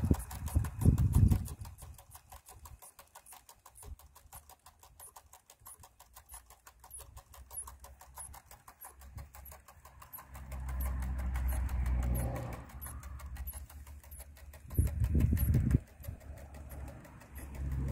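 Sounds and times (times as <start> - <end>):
clockwork ticking: 0.0 - 17.9
low motor hum: 0.0 - 17.9.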